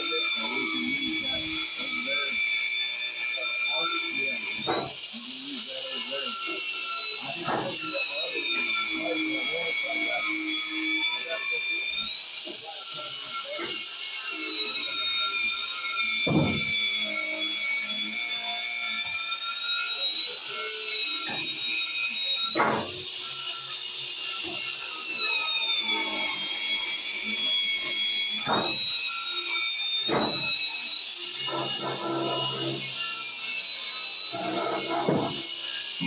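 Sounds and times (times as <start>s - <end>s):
wire brush grinder whining on metal: 0.0s - 36.0s.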